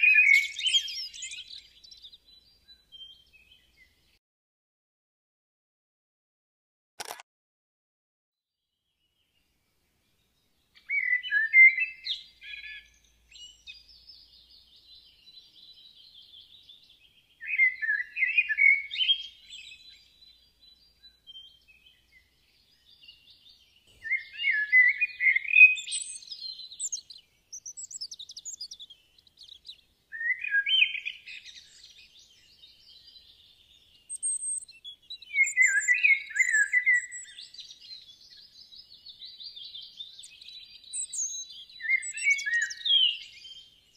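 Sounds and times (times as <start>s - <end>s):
faint bird twittering: 0.0s - 4.0s, 10.8s - 43.9s
bird singing chirping phrases: 0.0s - 4.2s, 8.8s - 43.9s.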